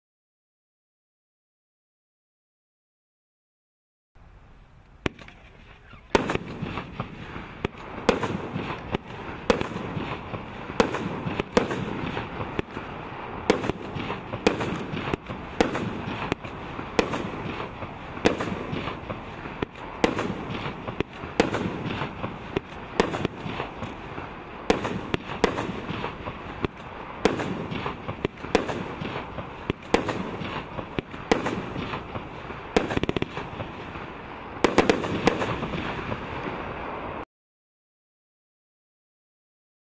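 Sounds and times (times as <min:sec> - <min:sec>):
fireworks crackle and hiss: 0:04.2 - 0:37.2
fireworks bangs: 0:05.0 - 0:37.2.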